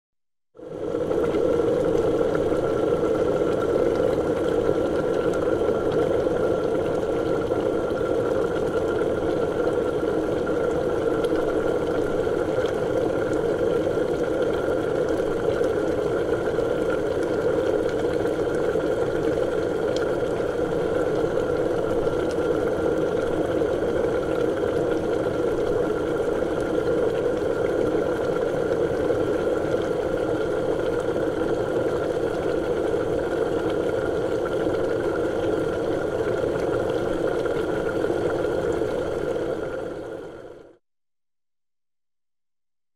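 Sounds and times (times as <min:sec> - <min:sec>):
liquid bubbling: 0:00.6 - 0:40.8.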